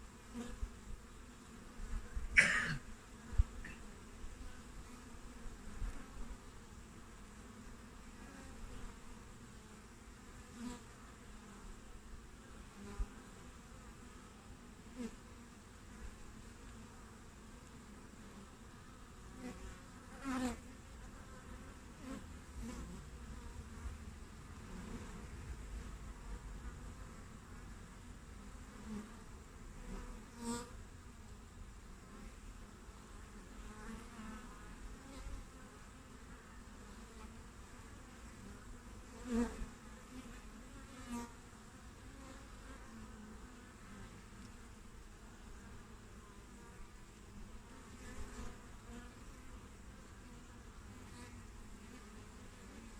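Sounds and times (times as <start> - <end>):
bee flying past: 0.0 - 52.9.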